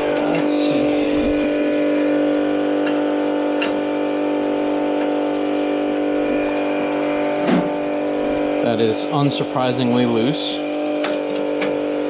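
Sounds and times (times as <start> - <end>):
electric pump motor humming: 0.0 - 12.0.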